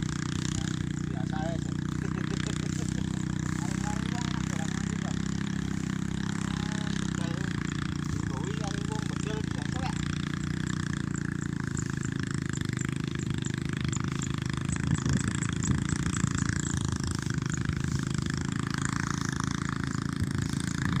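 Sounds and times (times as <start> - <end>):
dense continuous rattle: 0.0 - 21.0
threshing machine engine hum: 0.0 - 21.0.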